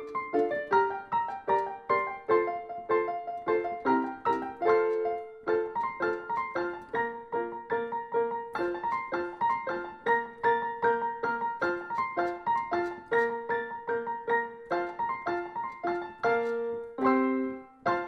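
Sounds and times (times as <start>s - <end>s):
piano melody: 0.0s - 18.0s.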